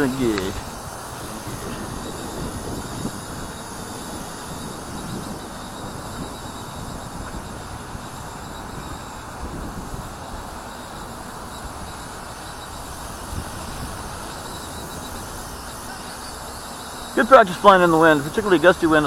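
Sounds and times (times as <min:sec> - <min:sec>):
toy helicopter motor whine: 0:00.0 - 0:19.0
wind buffeting microphone: 0:00.0 - 0:19.0.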